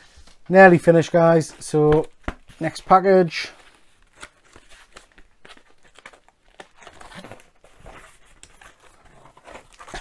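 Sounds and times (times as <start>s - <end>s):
paper crinkling and tearing: 0.8s - 10.0s.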